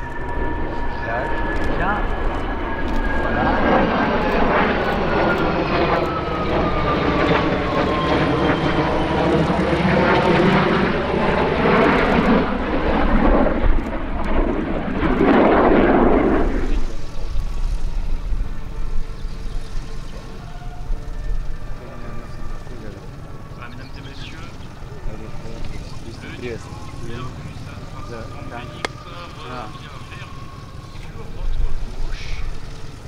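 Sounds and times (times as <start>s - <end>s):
jet aircraft flying past: 0.0s - 33.0s
jet whine falling in pitch: 0.0s - 33.0s.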